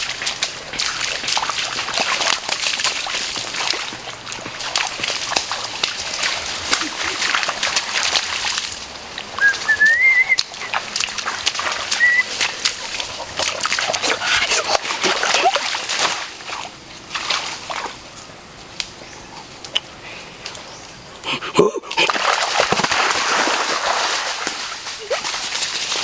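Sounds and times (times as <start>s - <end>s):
bare feet splashing in muddy water: 0.0s - 26.0s.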